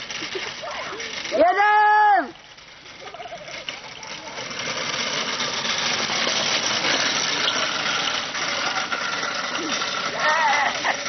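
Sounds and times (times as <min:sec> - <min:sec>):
kart frame clattering: 0:00.0 - 0:11.0
small wheels rattling over asphalt: 0:00.0 - 0:11.0.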